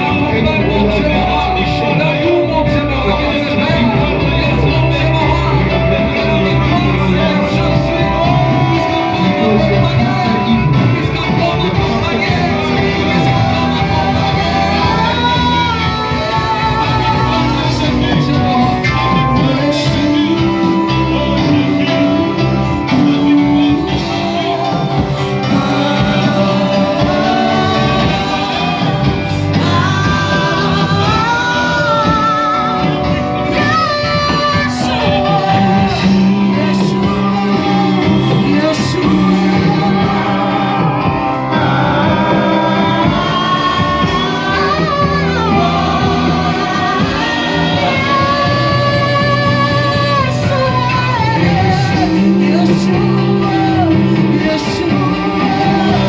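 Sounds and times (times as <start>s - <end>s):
instrumental accompaniment with bass: 0.0s - 56.0s
voices singing worship music: 0.0s - 56.0s.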